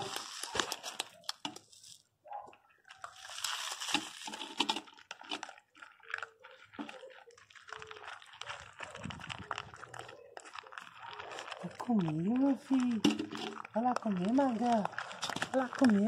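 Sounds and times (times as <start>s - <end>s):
dogs crunching dry kibble: 0.0s - 16.0s.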